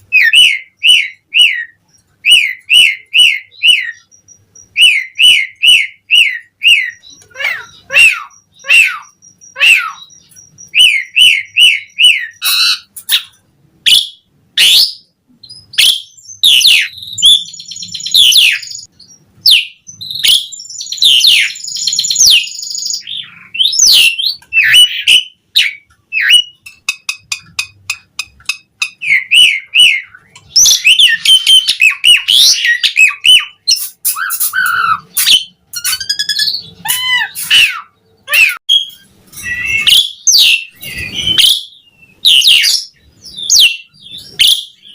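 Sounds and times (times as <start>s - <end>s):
starling singing: 0.0s - 44.9s.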